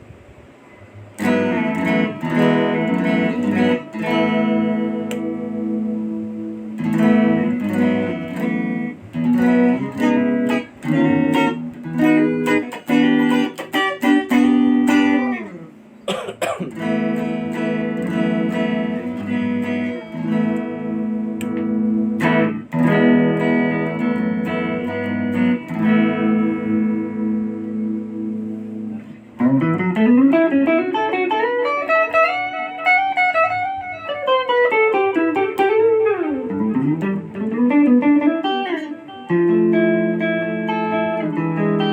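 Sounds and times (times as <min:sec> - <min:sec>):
electric guitar playing: 0:00.9 - 0:41.9.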